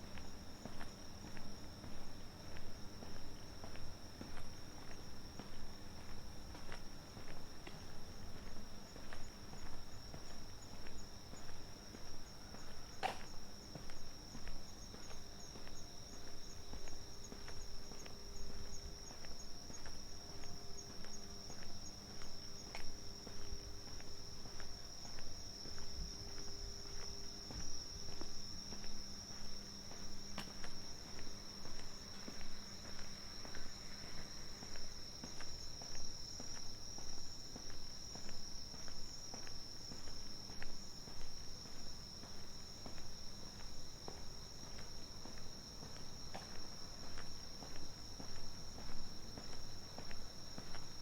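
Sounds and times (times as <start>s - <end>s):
footsteps on pavement: 0.0s - 51.0s
night insects chorus: 0.0s - 51.0s.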